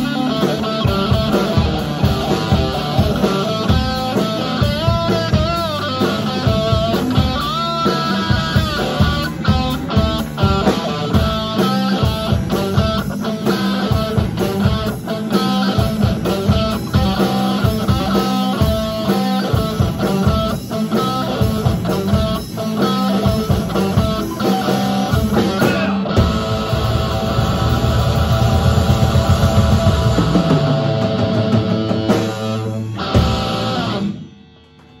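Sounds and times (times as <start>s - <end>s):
live rock band playing: 0.0s - 34.9s
guitars ringing chord: 0.0s - 35.0s.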